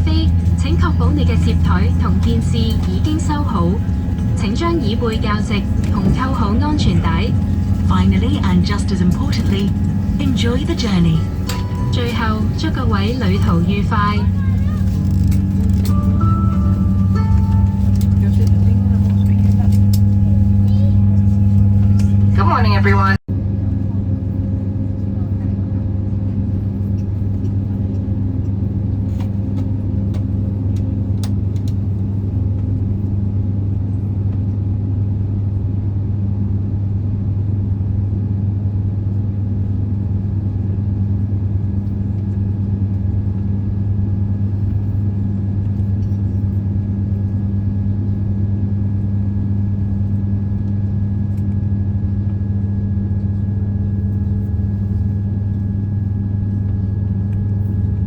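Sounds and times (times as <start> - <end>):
airliner cabin rumble and hum: 0.0 - 58.0.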